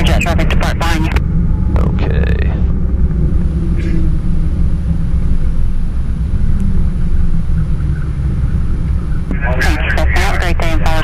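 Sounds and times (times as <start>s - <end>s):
propeller plane engine rumble: 0.0s - 11.0s.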